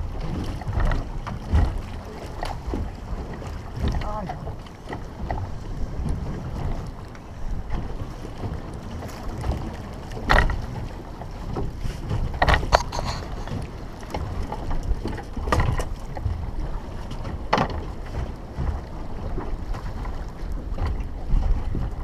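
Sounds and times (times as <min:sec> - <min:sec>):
water moving around boat: 0:00.0 - 0:22.0
wind rumbling on microphone: 0:00.0 - 0:22.0.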